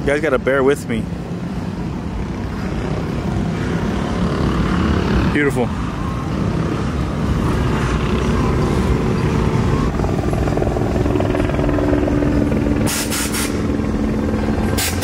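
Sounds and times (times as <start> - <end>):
car engine humming: 0.0 - 15.0
cars rolling by slowly: 0.0 - 15.0
helicopter rotor beating overhead: 0.0 - 15.0.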